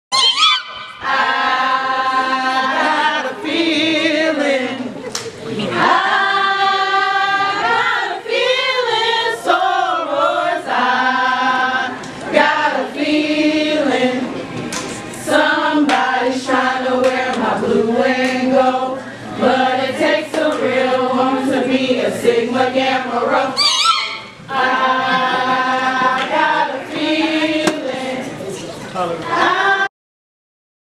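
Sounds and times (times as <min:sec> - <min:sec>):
women singing a cappella: 0:00.9 - 0:14.4, 0:15.1 - 0:28.6, 0:29.2 - 0:29.9.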